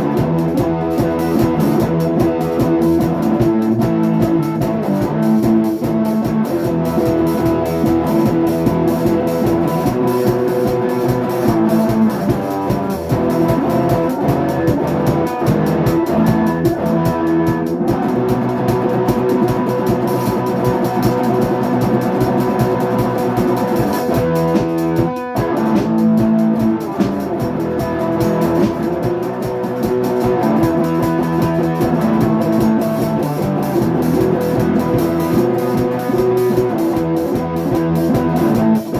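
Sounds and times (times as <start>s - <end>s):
drum kit beat: 0.0s - 38.9s
electric guitar: 0.0s - 38.9s
rock band playing: 0.0s - 38.9s.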